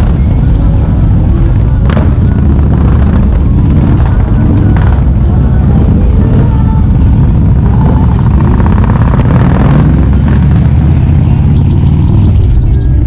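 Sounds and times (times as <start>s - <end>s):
motorcycle engine running loudly: 0.0s - 13.0s.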